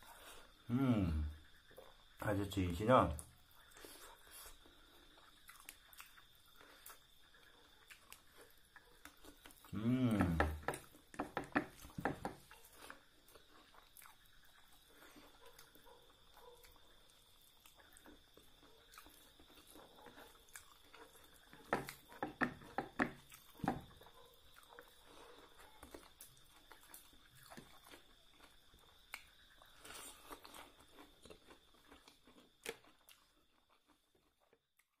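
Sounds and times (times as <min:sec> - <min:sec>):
person chewing food: 0:03.4 - 0:35.0.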